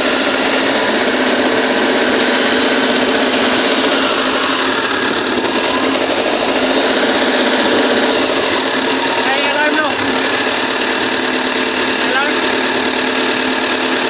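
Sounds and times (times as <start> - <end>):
diesel engine turning over: 0.0 - 14.0.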